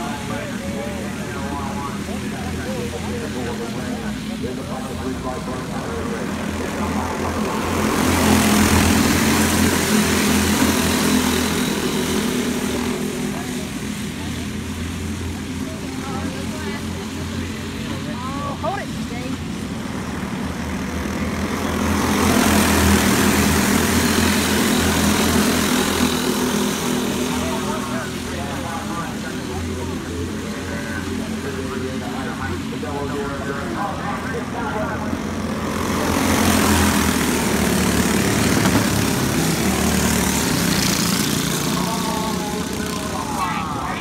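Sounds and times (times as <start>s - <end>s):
racing kart engines droning: 0.0s - 44.0s.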